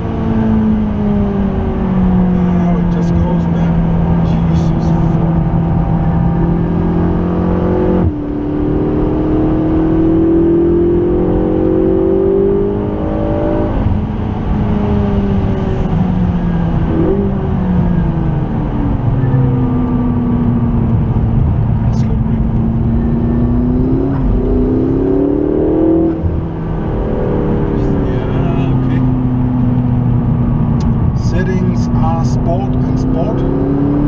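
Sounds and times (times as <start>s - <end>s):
car engine revving hard: 0.0s - 16.0s, 19.5s - 34.0s.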